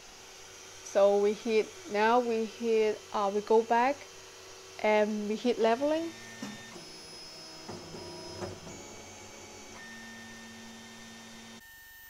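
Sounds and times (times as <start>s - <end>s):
stepper motors whining: 0.0s - 11.6s.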